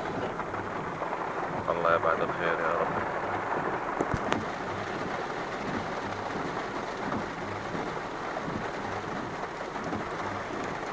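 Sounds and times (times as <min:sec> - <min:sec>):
heavy rain heard inside car: 0:00.0 - 0:10.9.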